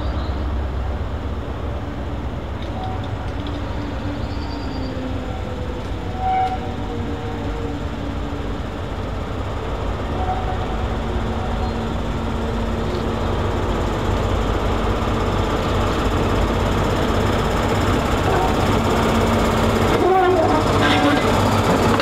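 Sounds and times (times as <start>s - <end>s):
diesel locomotive engine running: 0.0s - 22.0s.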